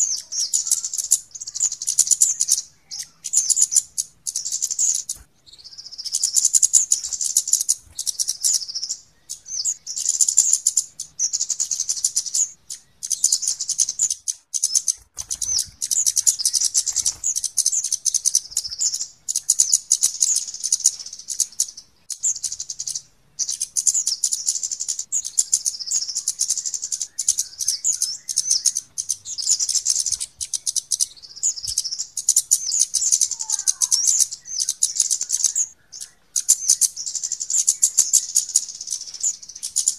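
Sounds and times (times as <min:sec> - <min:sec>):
bird calls high ticking chatter: 0:00.0 - 0:39.9.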